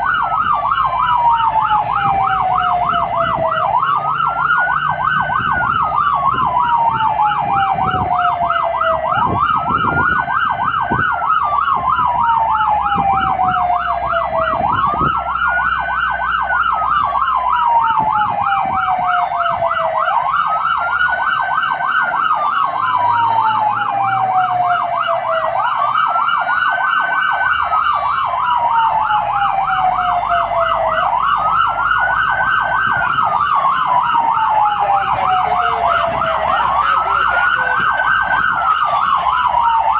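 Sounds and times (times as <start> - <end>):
siren wailing: 0.0 - 39.9
siren yelping: 0.0 - 39.9.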